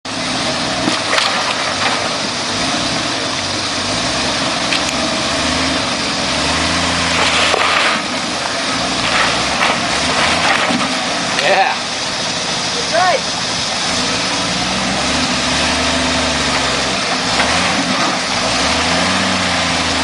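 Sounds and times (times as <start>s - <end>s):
truck engine running low speed: 0.1s - 20.0s.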